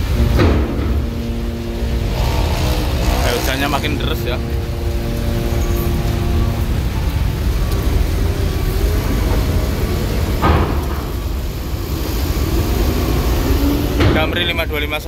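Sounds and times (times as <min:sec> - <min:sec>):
bus diesel engines rumbling: 0:00.0 - 0:15.0
heavy rain: 0:00.0 - 0:15.0.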